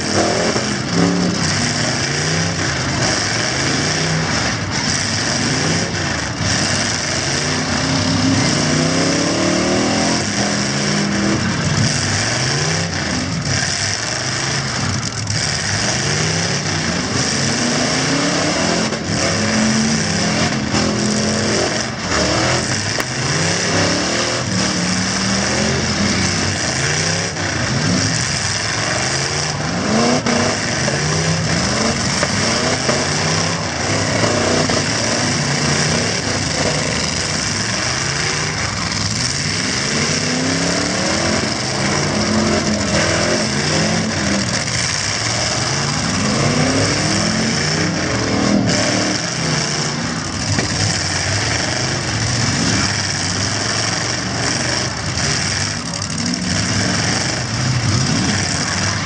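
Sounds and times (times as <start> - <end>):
truck engines revving hard: 0.0 - 59.0.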